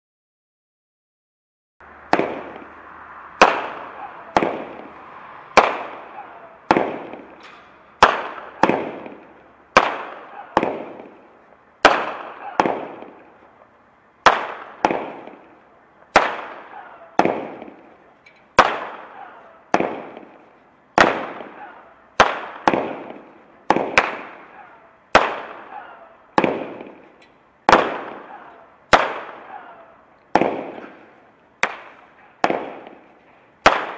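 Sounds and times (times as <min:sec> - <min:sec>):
firework bangs: 0:01.8 - 0:33.9
firework crackling: 0:01.8 - 0:33.9.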